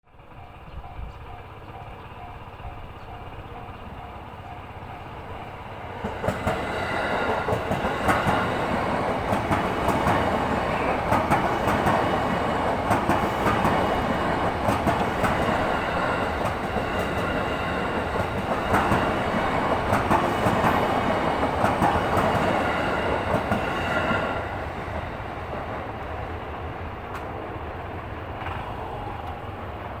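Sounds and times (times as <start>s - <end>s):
level-crossing warning alarm chiming: 0.3s - 24.9s
train wheels clacking over rail joints: 1.3s - 26.1s.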